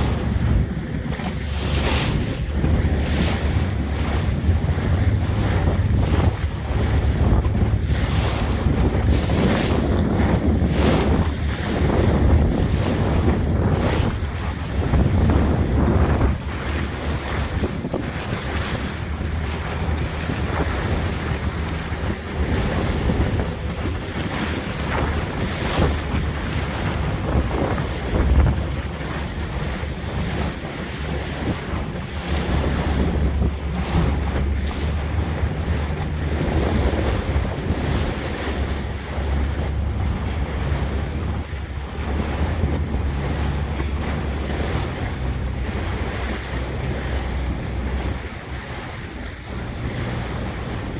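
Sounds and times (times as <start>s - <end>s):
boat engine rumble: 0.0s - 50.9s
water washing along hull: 0.0s - 50.9s
wind buffeting microphone: 0.0s - 50.9s.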